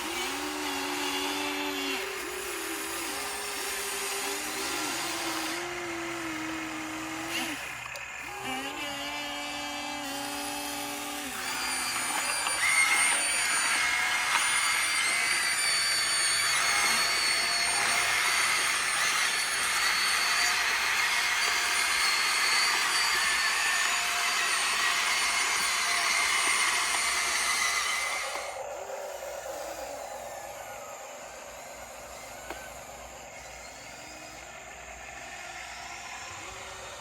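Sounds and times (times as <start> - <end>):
electric motor whine: 0.0 - 37.0
hydraulic pump rushing: 0.0 - 37.0.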